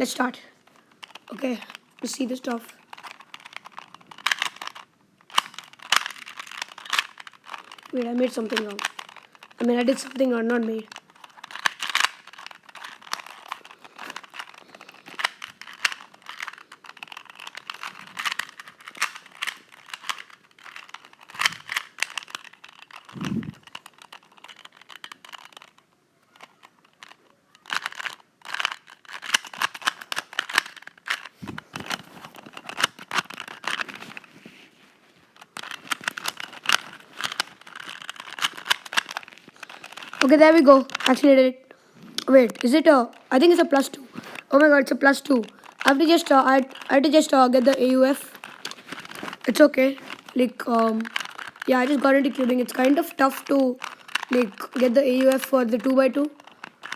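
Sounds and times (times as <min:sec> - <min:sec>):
speed cube plastic clicks: 0:00.0 - 0:34.6, 0:35.3 - 0:56.9.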